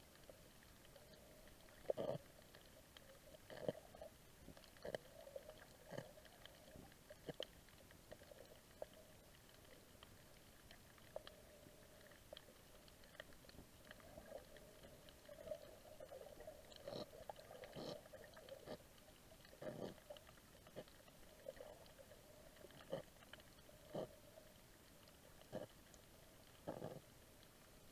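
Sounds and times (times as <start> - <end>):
faint steady hum: 0.0 - 27.9
fish scraping coral underwater: 1.0 - 24.3.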